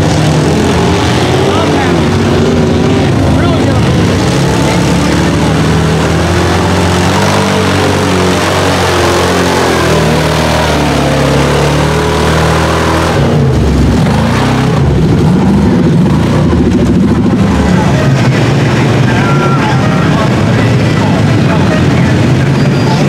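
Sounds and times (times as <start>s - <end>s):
truck engine revving: 0.0s - 23.0s
tyres churning through mud: 0.0s - 23.0s.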